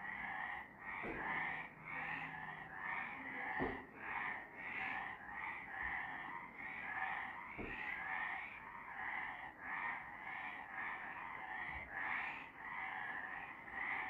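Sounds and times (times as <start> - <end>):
frogs croaking: 0.0 - 14.0.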